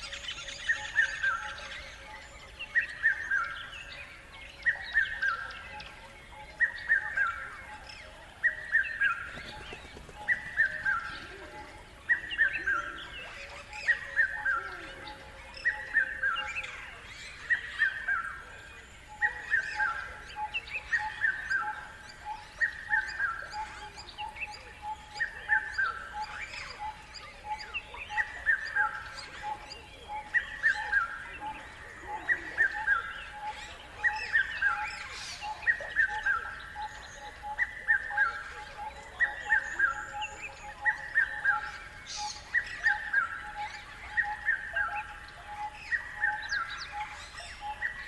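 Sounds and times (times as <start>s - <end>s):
scattered bird calls: 0.0s - 48.0s.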